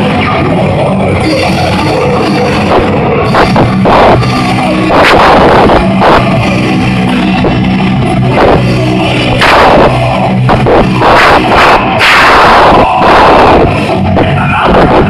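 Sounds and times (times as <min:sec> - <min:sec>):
distorted metal guitar chugs: 0:00.0 - 0:15.0
drum and cymbal hits: 0:01.2 - 0:15.0.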